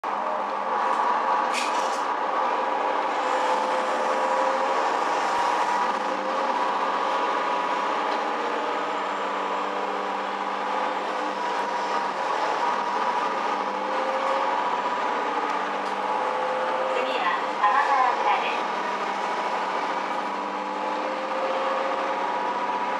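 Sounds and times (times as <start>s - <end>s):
diesel railcar engine drone: 0.0s - 22.9s.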